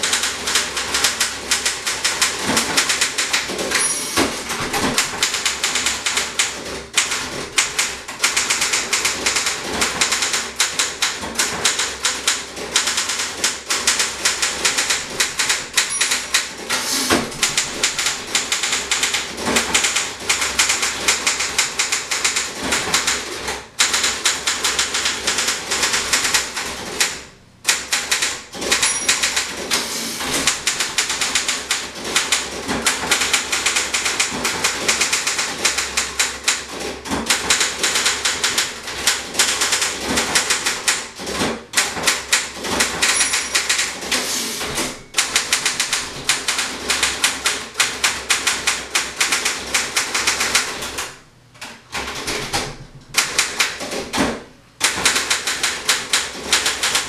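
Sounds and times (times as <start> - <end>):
manual typewriter typing: 0.0 - 57.0.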